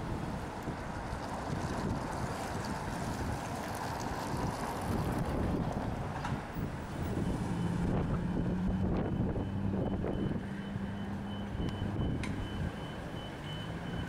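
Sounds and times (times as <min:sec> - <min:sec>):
street rumble: 0:00.0 - 0:14.0.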